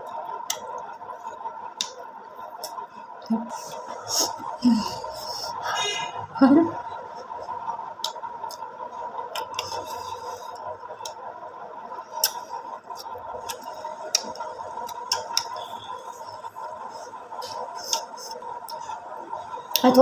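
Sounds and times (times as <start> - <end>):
people chewing: 0.0 - 20.0
steady background tone: 0.0 - 20.0.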